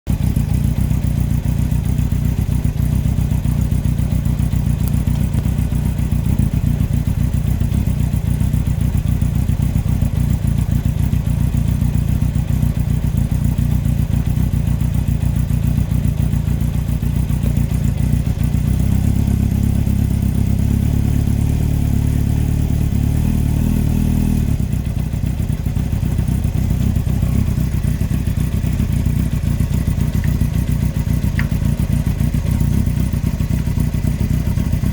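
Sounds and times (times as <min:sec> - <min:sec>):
engine knocking: 0:00.1 - 0:34.9
motorcycle engine running: 0:00.1 - 0:34.9.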